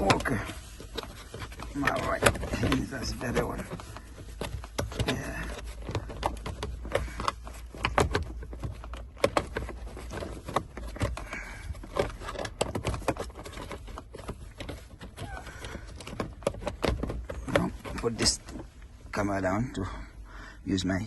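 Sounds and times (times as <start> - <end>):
clicks and knocks on car trim: 0.0 - 18.9.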